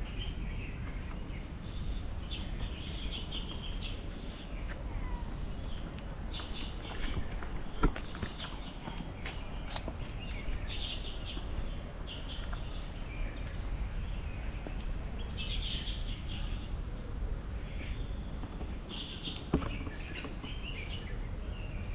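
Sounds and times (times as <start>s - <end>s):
low outdoor background rumble: 0.0s - 21.9s
small birds chirping: 0.0s - 21.9s.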